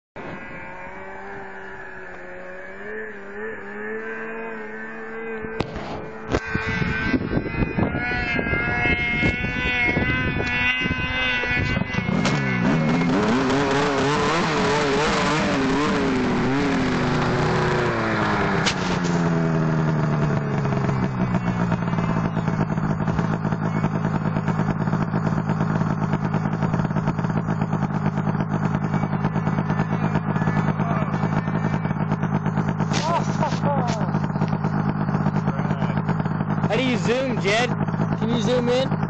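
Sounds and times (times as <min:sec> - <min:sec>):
snowmobile engine revving and idling: 0:00.0 - 0:39.0.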